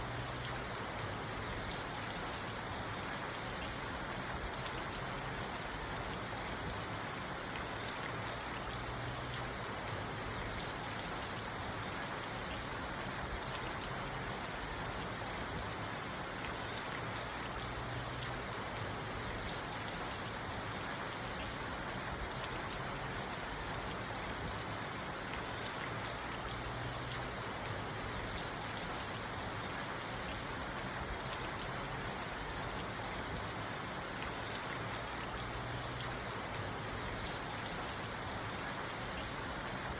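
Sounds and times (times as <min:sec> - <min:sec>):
rain on a car from inside: 0:00.0 - 0:39.9.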